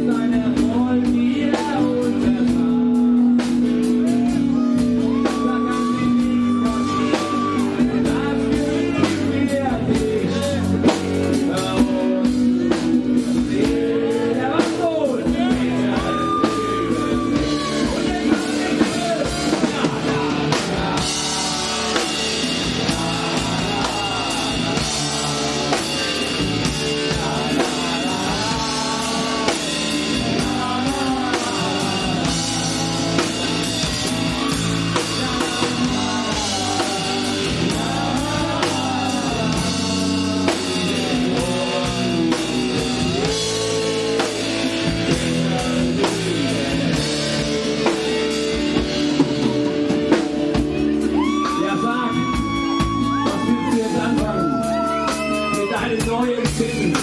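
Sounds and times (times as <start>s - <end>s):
drum kit beat: 0.0s - 57.0s
guitars playing: 2.2s - 57.0s.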